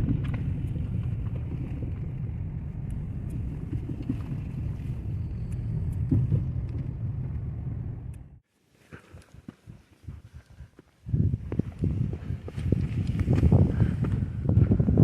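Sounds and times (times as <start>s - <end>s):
gusting wind buffeting microphone: 0.0s - 8.4s, 9.4s - 15.0s.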